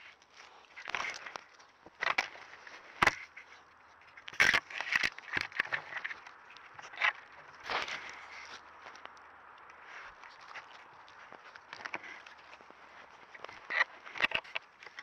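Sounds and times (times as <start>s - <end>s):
animal rustling in dry leaves: 0.0s - 15.0s.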